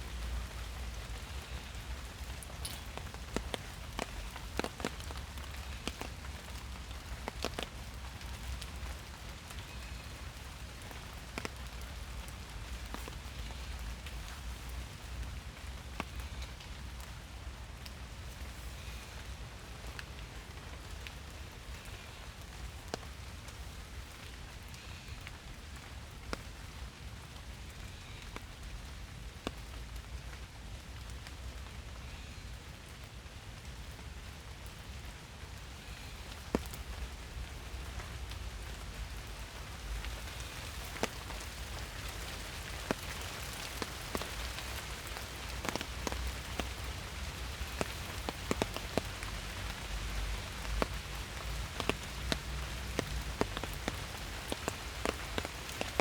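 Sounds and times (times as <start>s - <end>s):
rain hissing in a forest: 0.0s - 56.0s
sharp raindrops striking: 0.0s - 56.0s.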